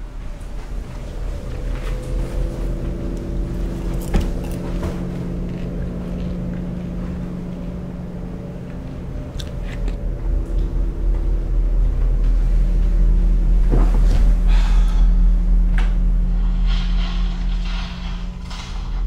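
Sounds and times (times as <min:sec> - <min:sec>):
low droning music: 0:00.0 - 0:19.0.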